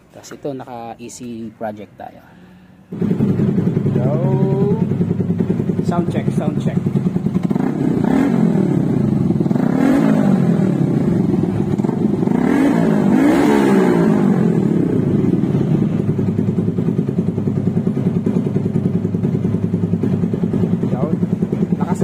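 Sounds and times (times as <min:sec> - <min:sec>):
motorcycle engine revving and idling: 0:02.8 - 0:22.0.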